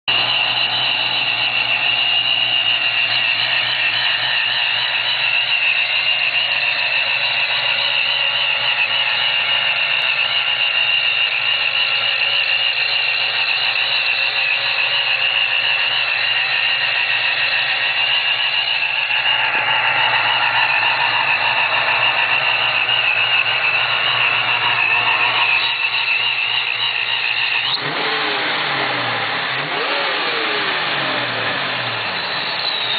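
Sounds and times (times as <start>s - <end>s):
car engine idling: 0.0s - 32.9s
supercharger whine: 0.0s - 32.9s.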